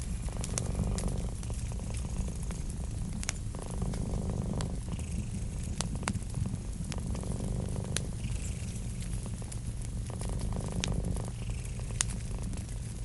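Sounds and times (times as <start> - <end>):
cat purring: 0.0 - 13.0
wood fire crackling and popping: 0.0 - 13.0.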